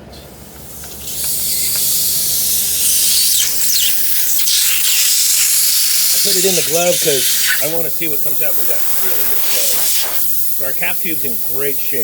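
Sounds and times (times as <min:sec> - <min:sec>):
gas hissing through tube: 0:00.6 - 0:12.0.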